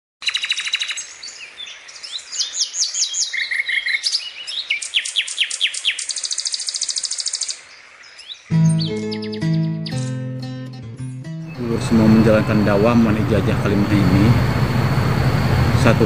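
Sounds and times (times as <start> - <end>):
birds calling and chirping: 0.2 - 16.0.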